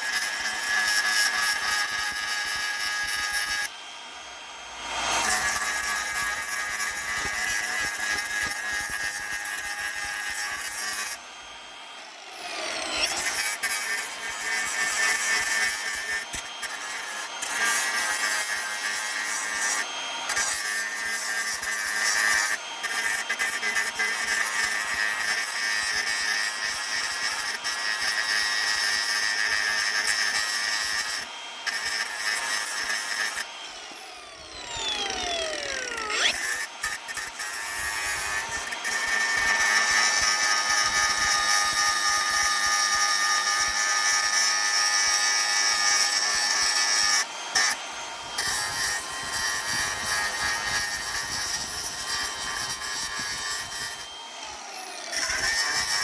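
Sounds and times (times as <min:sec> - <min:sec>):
electric power tool motor whine: 0:00.0 - 0:56.0.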